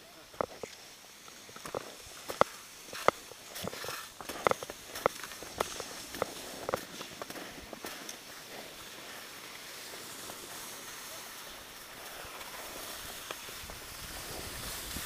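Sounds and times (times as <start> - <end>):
skis sliding over snow: 0.0 - 15.0.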